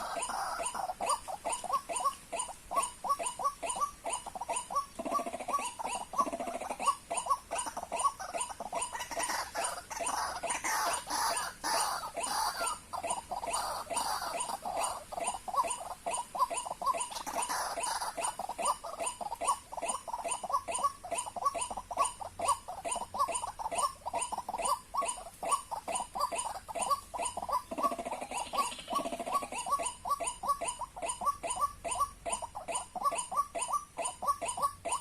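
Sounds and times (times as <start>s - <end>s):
bird croaking calls: 0.0s - 35.0s.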